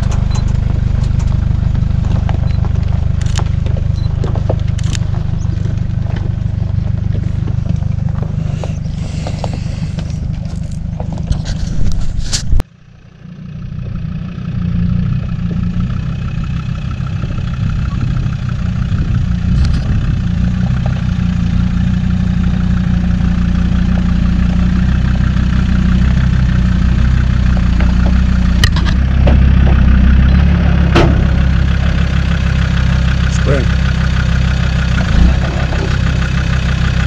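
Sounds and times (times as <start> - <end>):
vehicle engine running at low revs: 0.0 - 37.0.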